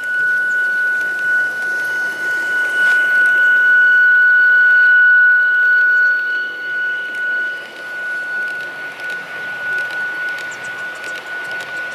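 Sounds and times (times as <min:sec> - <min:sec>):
model train whining past: 0:00.0 - 0:11.9.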